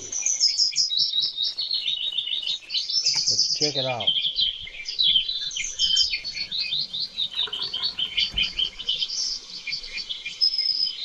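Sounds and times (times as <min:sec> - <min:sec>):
small bird chirping and warbling: 0:00.0 - 0:11.0.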